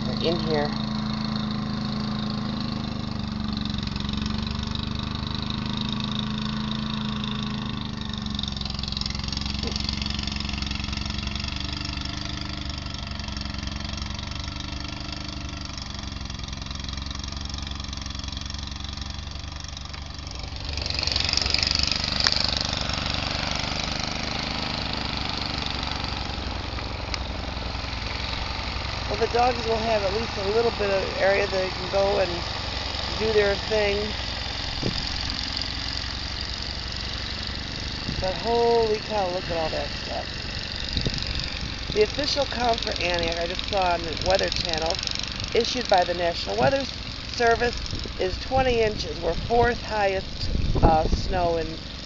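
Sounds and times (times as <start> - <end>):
snowblower engine running: 0.0 - 52.0.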